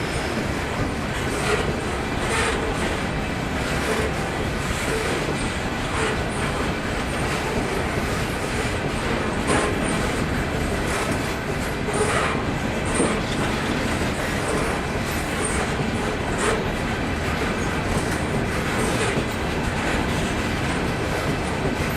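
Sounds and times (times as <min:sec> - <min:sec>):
train wheels clacking on rails: 0:00.0 - 0:21.9.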